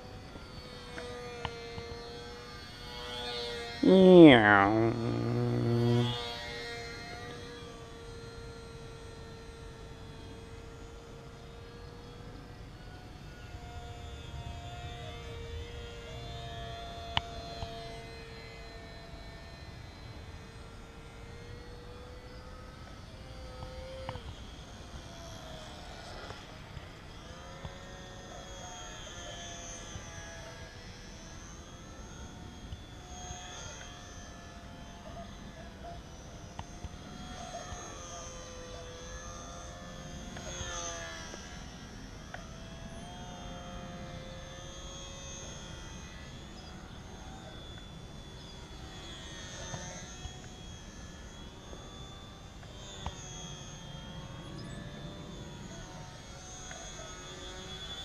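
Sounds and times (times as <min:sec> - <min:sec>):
model plane motor whining: 0:00.0 - 0:58.0.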